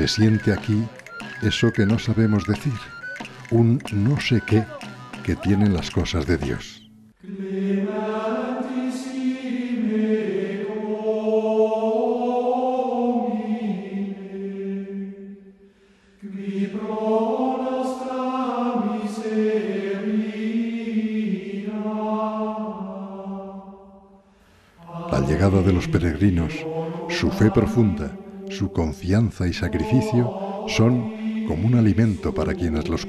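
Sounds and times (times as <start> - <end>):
voices singing slow chant: 0.0 - 33.0.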